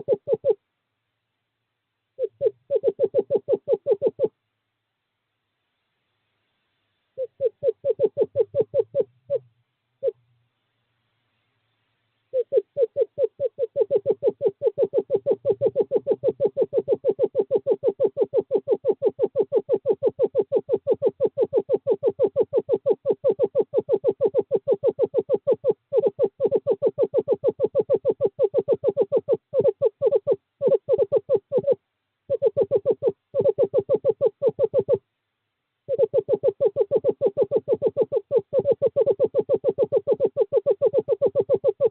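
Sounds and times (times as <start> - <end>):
screech owl trilling: 0.0 - 0.6, 2.2 - 4.3, 7.2 - 10.2, 12.3 - 35.0, 35.9 - 41.9.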